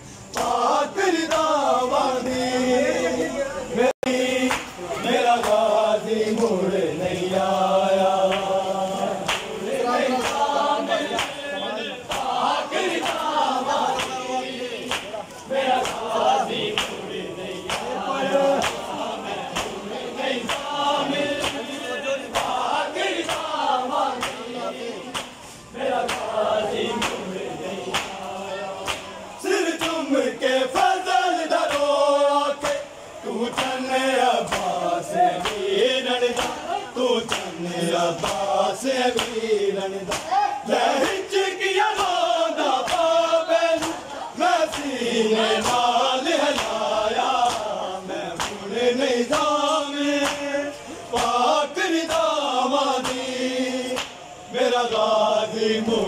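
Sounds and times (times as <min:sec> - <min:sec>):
men chanting in unison: 0:00.2 - 0:56.0.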